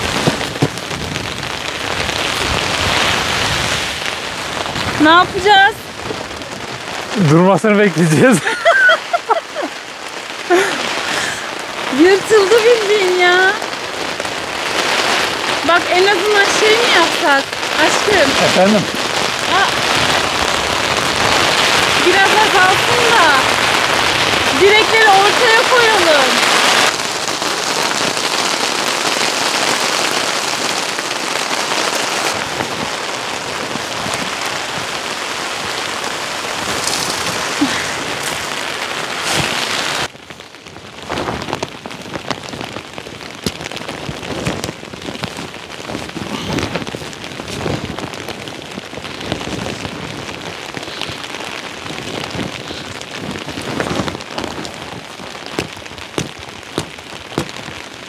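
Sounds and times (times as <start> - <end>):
heavy rain pouring: 0.0 - 58.0
raindrops tapping on a surface: 0.0 - 58.0.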